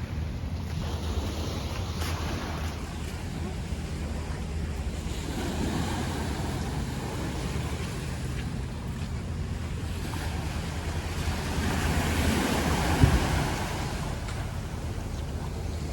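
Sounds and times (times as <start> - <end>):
sea water washing around boat: 0.0 - 15.9
wind buffeting microphone: 0.0 - 15.9.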